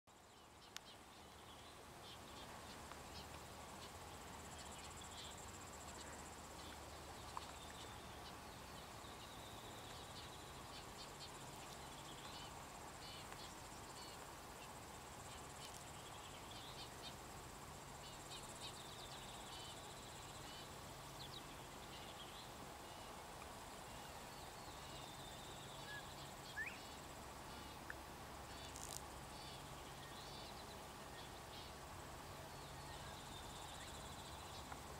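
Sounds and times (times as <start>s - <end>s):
insect chorus: 0.1s - 34.9s.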